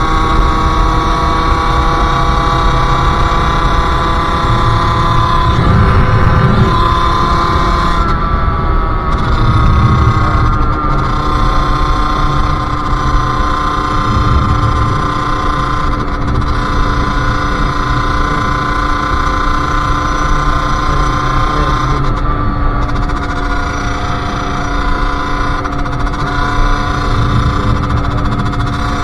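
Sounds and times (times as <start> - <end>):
two-stroke engine running: 0.0 - 29.0.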